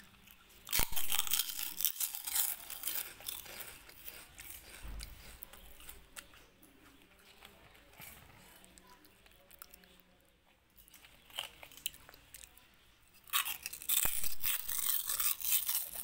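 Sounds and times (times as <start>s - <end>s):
kittens crunching snack: 0.0s - 16.0s.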